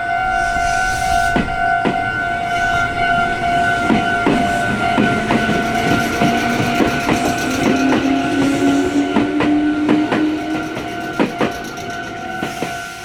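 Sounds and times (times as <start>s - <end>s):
level-crossing alarm ringing: 0.0s - 13.0s
low train tone rising: 0.0s - 13.0s
train wheels clacking: 0.2s - 13.0s.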